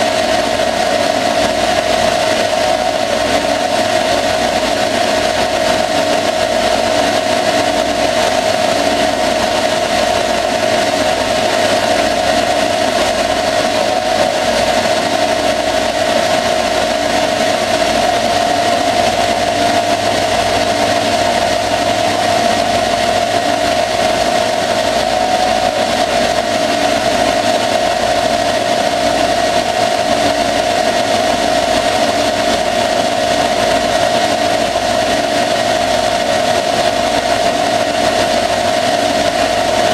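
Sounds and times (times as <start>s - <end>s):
coolant flowing: 0.0s - 39.9s
lathe spindle whine: 0.0s - 39.9s
lathe tool cutting metal: 0.0s - 39.9s.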